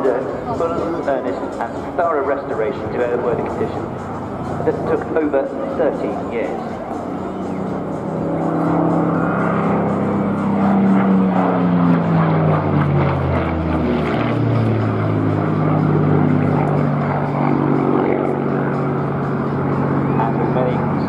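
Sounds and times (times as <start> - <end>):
propeller plane engine drone: 0.0 - 21.0.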